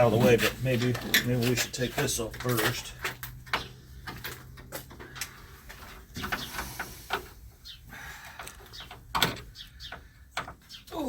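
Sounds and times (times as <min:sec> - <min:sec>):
hand tools clanking: 0:00.0 - 0:11.0.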